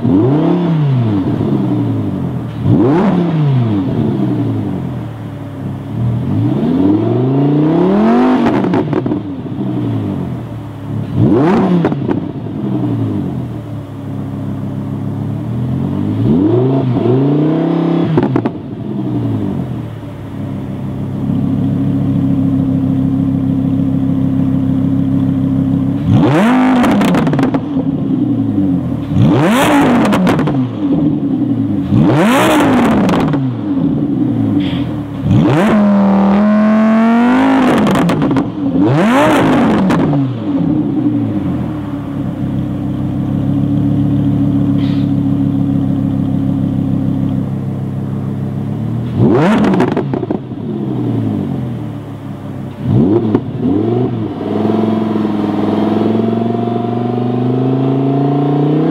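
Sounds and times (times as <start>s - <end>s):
sports car engine revving: 0.0s - 58.9s.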